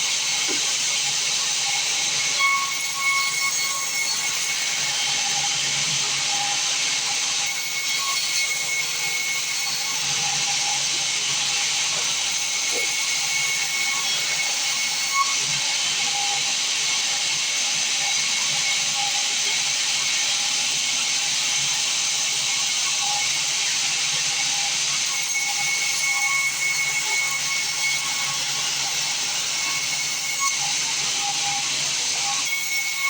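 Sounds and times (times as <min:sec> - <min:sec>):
band saw running: 0:00.0 - 0:33.0.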